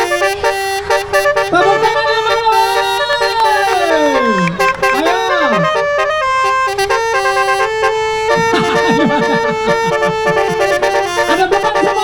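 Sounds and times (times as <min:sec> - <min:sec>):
bus musical horn melody: 0:00.0 - 0:12.0.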